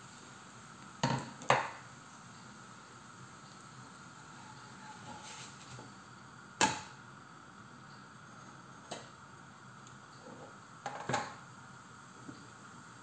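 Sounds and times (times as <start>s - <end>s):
flatbread sizzling in a pan: 0.0s - 13.0s.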